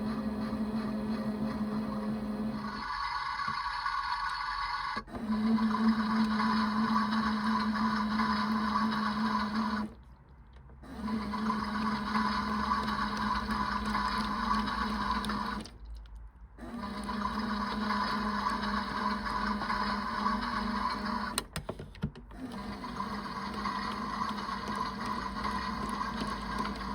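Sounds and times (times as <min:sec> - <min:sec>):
toy washing machine motor humming: 0:00.0 - 0:10.0, 0:10.9 - 0:15.7, 0:16.6 - 0:21.4, 0:22.4 - 0:26.9.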